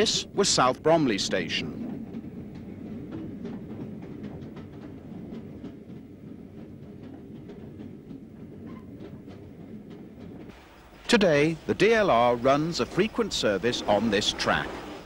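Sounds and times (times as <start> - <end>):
faint clicks of train: 0.0 - 15.0
train rumbling on track: 0.0 - 15.0.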